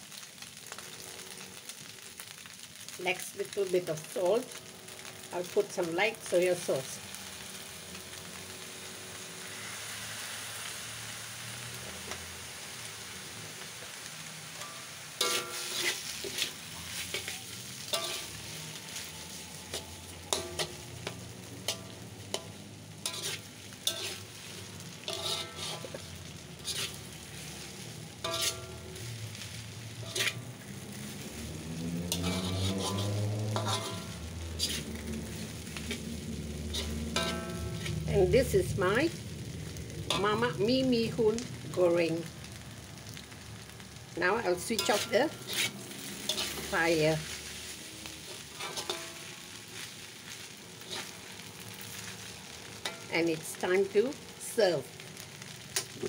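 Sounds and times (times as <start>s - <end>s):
noodles sizzling in a wok: 0.0s - 56.0s.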